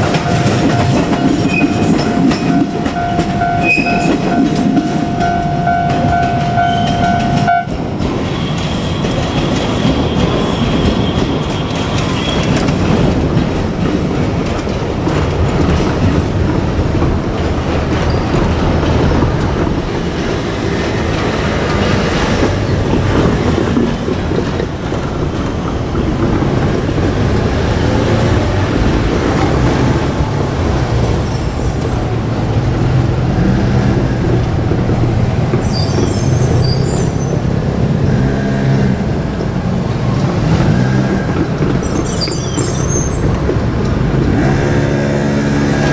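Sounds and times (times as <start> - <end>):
train wheel-on-rail noise: 0.0 - 45.9.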